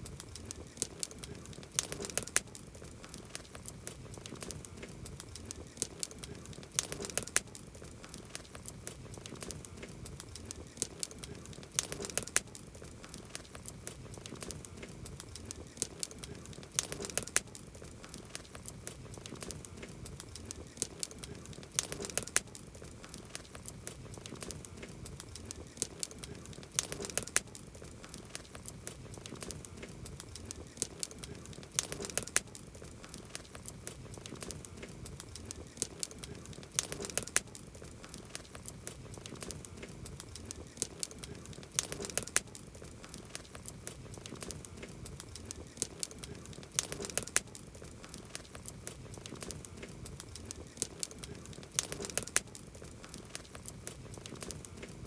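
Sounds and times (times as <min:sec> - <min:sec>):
campfire crackling: 0:00.0 - 0:55.0
wood fire pops: 0:00.0 - 0:55.0.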